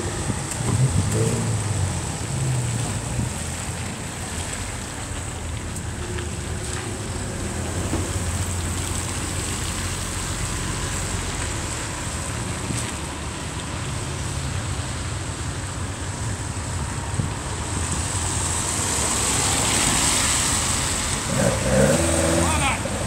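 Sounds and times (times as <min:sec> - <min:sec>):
car engines passing: 0:00.0 - 0:23.0
tyres on wet road: 0:00.0 - 0:23.0.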